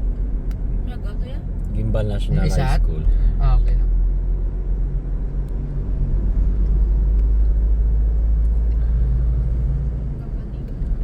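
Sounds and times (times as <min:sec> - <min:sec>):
car road and engine rumble: 0:00.0 - 0:11.0
faint engine hum: 0:00.0 - 0:11.0.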